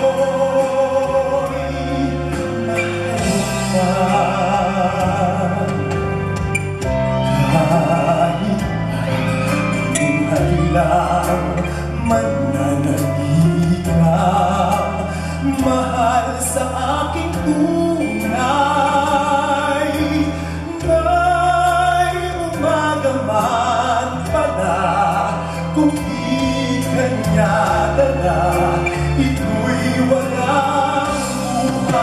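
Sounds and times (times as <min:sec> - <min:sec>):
man singing into microphone: 0:00.0 - 0:32.0
musical accompaniment with bass: 0:00.0 - 0:32.0.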